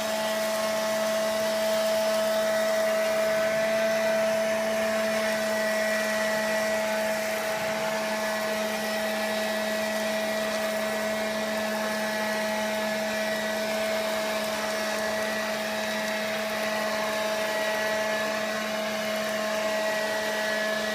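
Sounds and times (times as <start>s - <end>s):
small vacuum cleaner whining: 0.0s - 20.9s.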